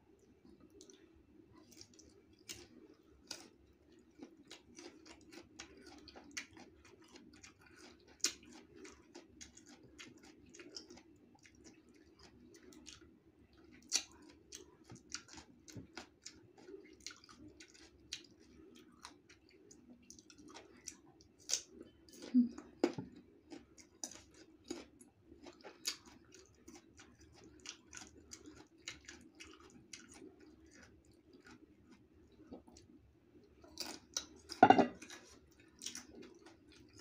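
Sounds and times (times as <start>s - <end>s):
faint low hum: 0.0s - 37.0s
chewing and crunching mango: 0.1s - 37.0s.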